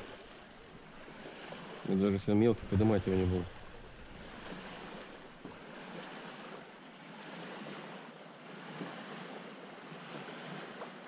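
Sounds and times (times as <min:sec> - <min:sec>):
water lapping: 0:00.0 - 0:11.0.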